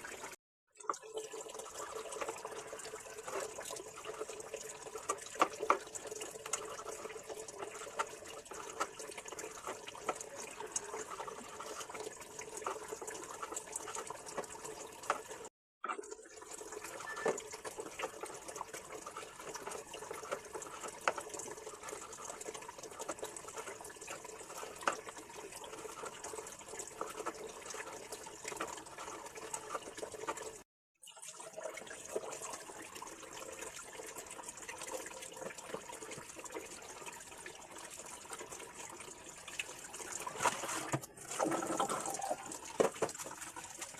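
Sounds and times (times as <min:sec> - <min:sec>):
tap water splashing into sink: 0:00.8 - 0:33.0, 0:33.6 - 0:36.8, 0:39.5 - 0:43.9.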